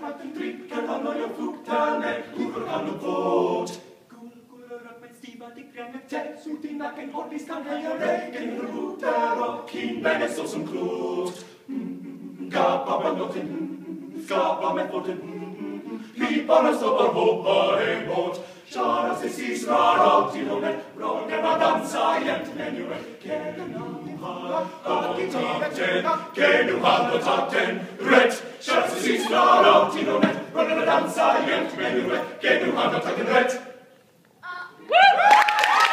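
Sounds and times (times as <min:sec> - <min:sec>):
men singing in harmony: 0:00.0 - 0:33.8.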